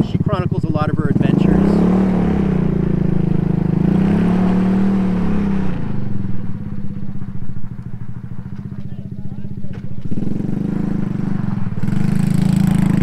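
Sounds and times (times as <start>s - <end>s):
quad engine revving: 0.0s - 7.4s, 8.3s - 13.0s.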